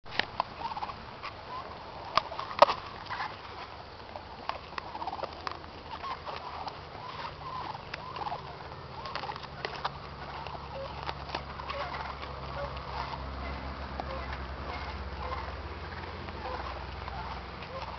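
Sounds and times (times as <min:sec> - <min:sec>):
goat crunching an apple: 0:00.1 - 0:17.9
short pitched calls: 0:00.5 - 0:17.9.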